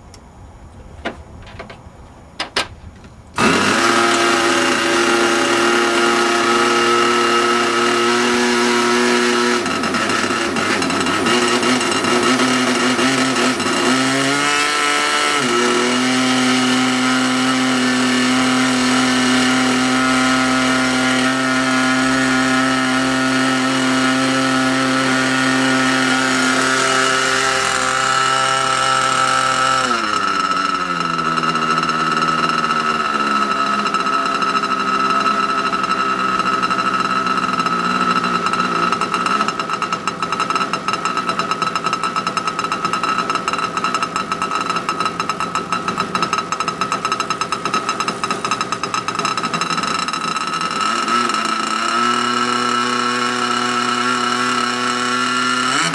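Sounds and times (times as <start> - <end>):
model airplane engine running: 3.4 - 13.8, 14.4 - 55.9.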